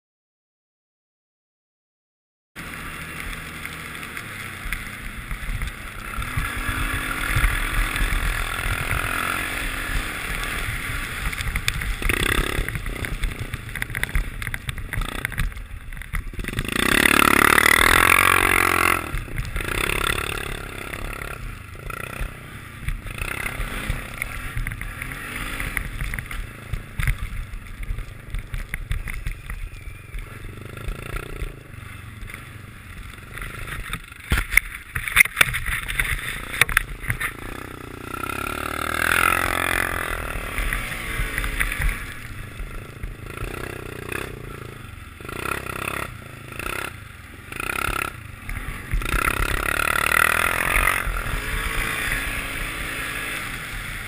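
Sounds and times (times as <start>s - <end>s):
atv engines revving: 2.6s - 54.0s.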